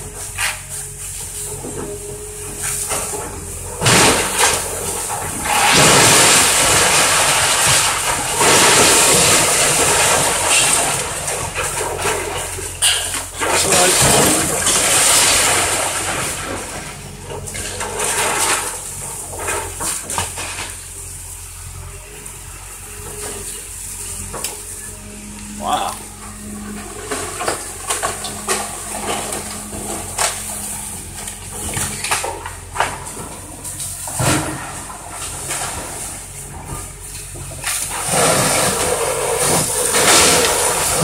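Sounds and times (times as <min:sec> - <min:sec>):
excavator diesel engine running: 0:00.0 - 0:41.0
wood splintering and cracking: 0:02.5 - 0:21.0, 0:25.5 - 0:41.0.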